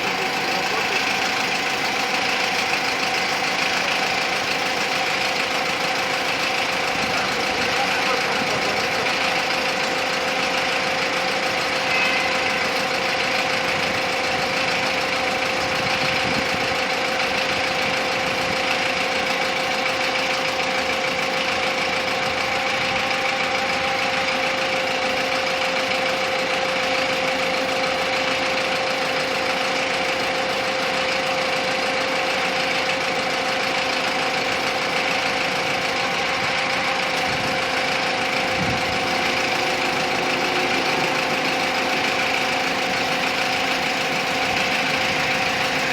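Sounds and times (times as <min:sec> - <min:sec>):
steady mechanical whine: 0:00.0 - 0:45.9
truck engine running: 0:00.0 - 0:45.9.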